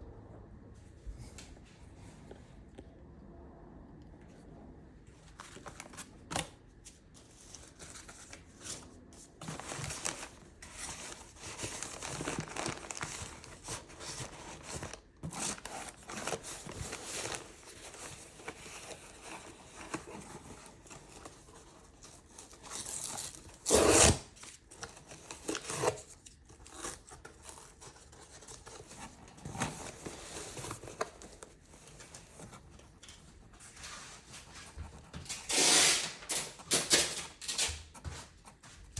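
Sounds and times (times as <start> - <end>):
packaging rustling and crinkling: 5.3 - 37.7.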